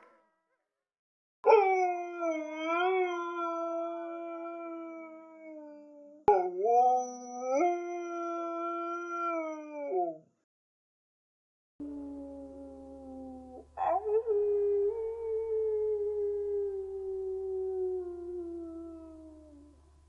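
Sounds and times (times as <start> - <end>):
dog howling: 1.4 - 10.2, 11.8 - 19.7.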